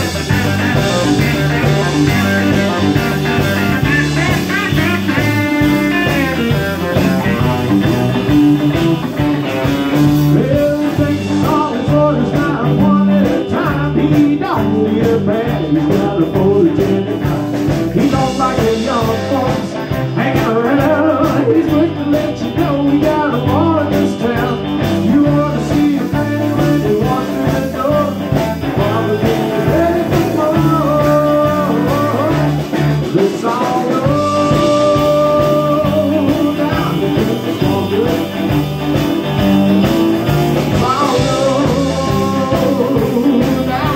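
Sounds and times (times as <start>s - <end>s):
blues-rock band playing: 0.0s - 43.9s
electric guitar lead line: 0.0s - 43.9s.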